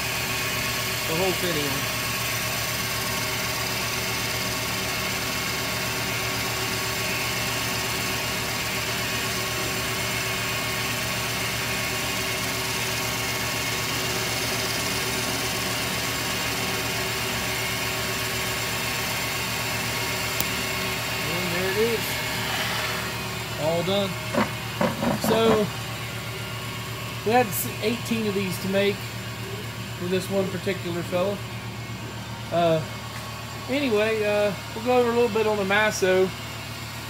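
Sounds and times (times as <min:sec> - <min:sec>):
lathe motor hum and whine: 0:00.0 - 0:37.0.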